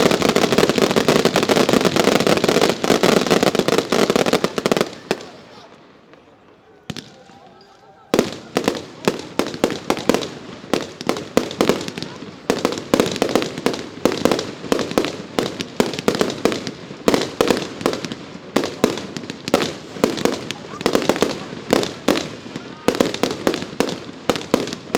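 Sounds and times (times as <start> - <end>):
fireworks barrage bangs: 0.0 - 24.9.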